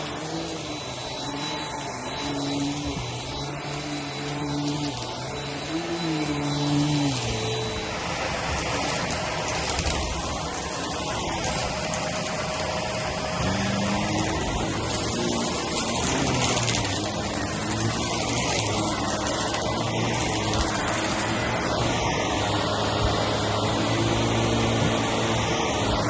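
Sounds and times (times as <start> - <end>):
crackling of cereal sucked up: 0.0 - 21.8
vacuum cleaner running on carpet: 0.0 - 26.0.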